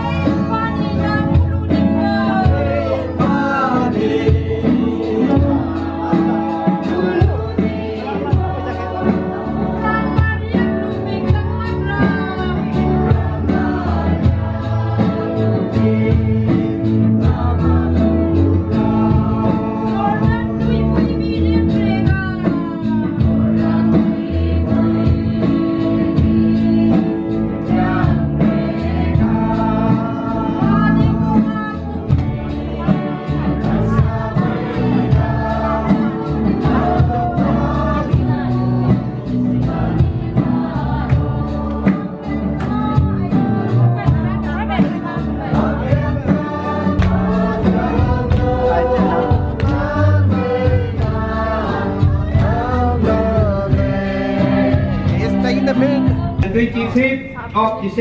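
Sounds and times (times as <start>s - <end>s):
person singing: 0.0s - 57.0s
live band playing: 0.0s - 58.0s.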